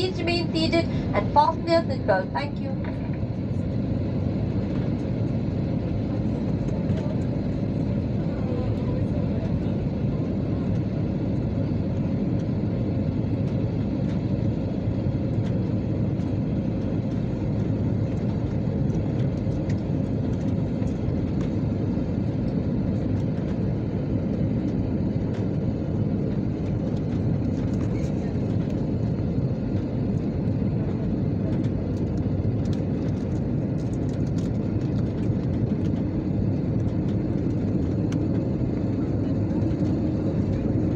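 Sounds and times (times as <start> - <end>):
jet engine and airflow rumble: 0.0 - 40.9.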